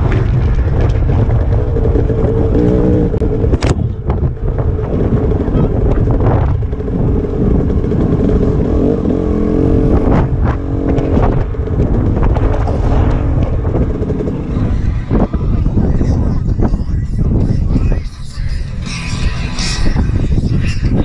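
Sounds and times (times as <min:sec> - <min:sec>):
dirt bike engine: 0:00.0 - 0:21.0
wind buffeting microphone: 0:00.0 - 0:21.0.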